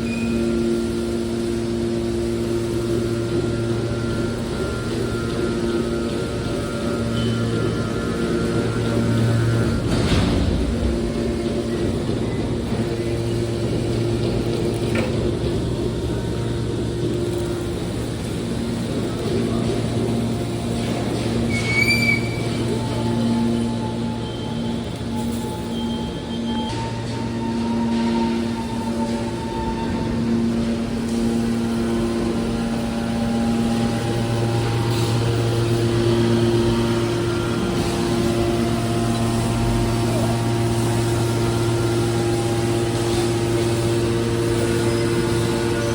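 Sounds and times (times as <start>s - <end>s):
hydraulic machine hum: 0.0s - 45.9s.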